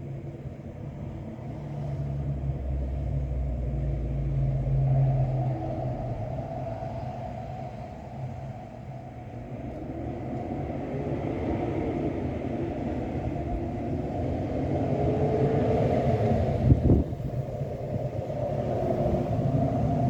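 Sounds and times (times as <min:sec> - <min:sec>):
wind gusting across microphone: 0:00.0 - 0:20.0.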